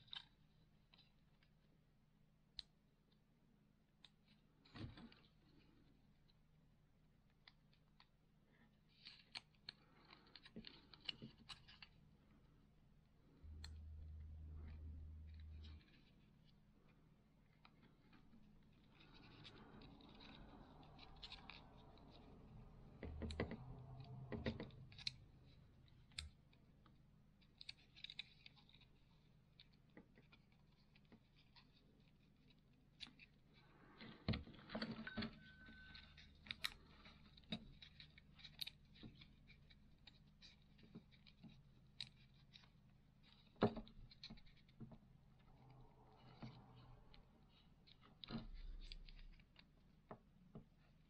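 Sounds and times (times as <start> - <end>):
small clicks and scratches: 0.0 - 51.0.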